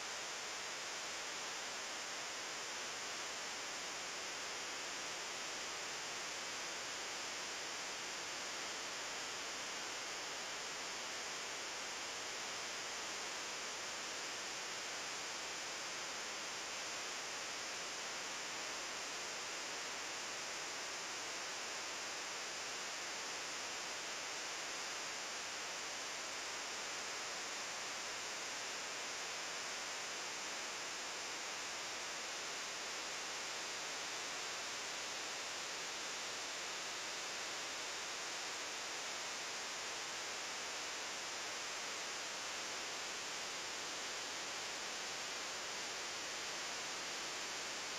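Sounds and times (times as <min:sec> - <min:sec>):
recording noise hiss: 0:00.0 - 0:47.9.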